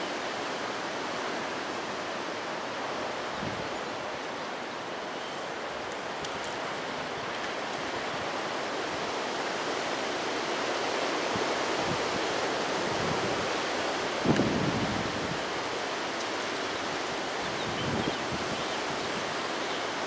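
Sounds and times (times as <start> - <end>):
wind rushing through treetops: 0.0 - 20.0.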